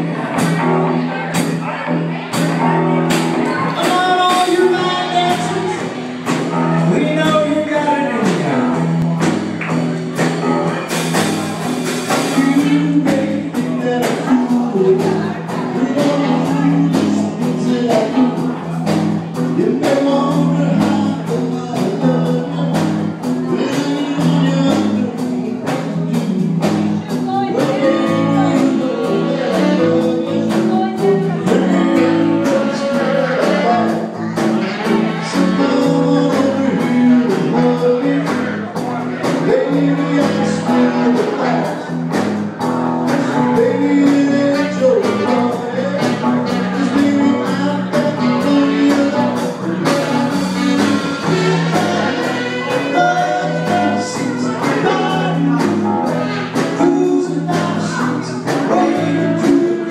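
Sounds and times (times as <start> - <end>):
drum kit beat: 0.0 - 59.9
electric guitars: 0.0 - 59.9
person singing: 0.0 - 59.9.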